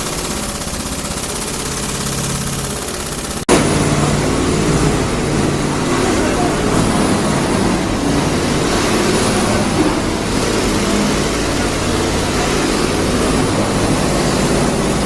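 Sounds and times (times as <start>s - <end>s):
heavy machinery humming: 0.0s - 15.0s.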